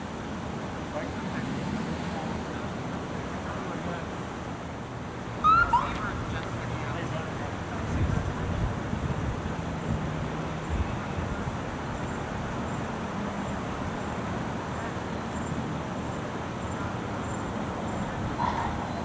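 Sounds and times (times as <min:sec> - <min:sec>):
vehicles driving past: 0:00.2 - 0:19.0.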